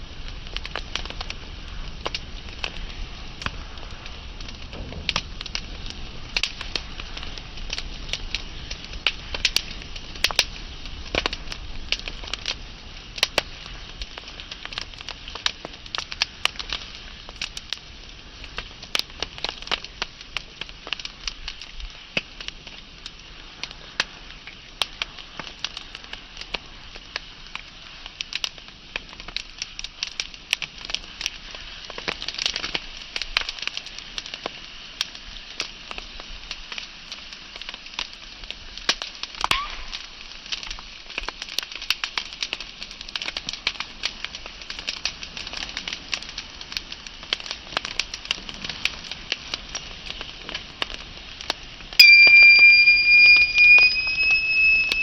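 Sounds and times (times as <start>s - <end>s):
hiss of flames: 0.0s - 52.0s
wood fire crackling and popping: 0.0s - 55.0s.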